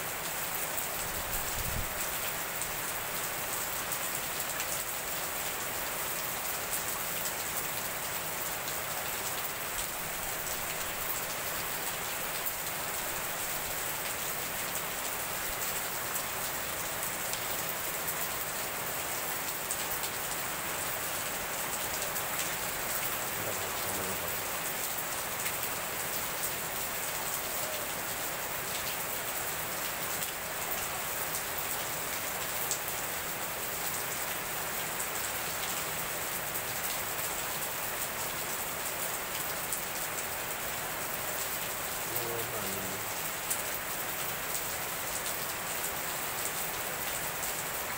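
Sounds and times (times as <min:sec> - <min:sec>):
heavy rain splashing on paving: 0:00.0 - 0:47.9.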